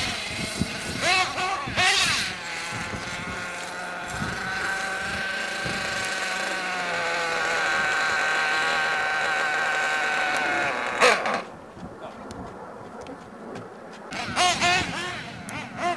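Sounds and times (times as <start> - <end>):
small engine high-pitched buzz: 0.0 - 11.6, 13.5 - 15.9.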